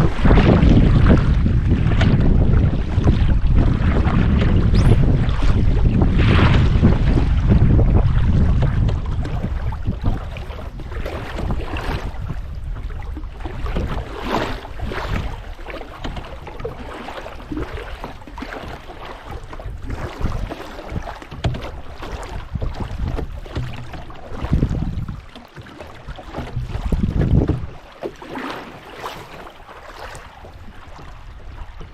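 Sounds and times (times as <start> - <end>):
wind buffeting microphone: 0.0 - 28.1, 29.1 - 31.9
paddle swishing through water: 0.0 - 31.9.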